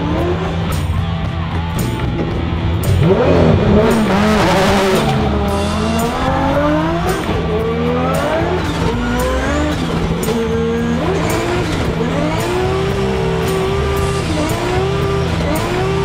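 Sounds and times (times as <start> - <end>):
background music with steady beat: 0.0 - 16.0
car engine revving: 0.0 - 16.0.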